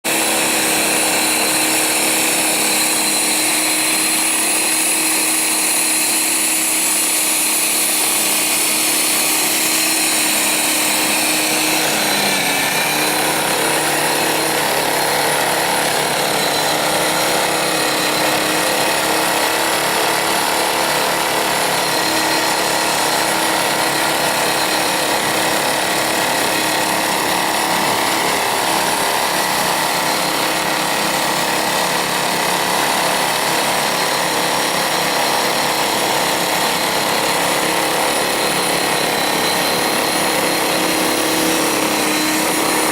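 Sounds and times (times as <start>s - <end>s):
auger whirring: 0.0s - 42.9s
snowblower motor whine: 0.0s - 42.9s.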